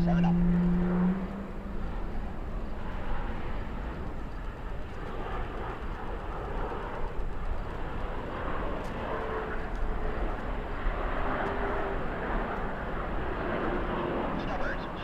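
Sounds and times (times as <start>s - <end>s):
faint jet whine: 0.0s - 15.0s
jet engines roaring: 0.0s - 15.0s.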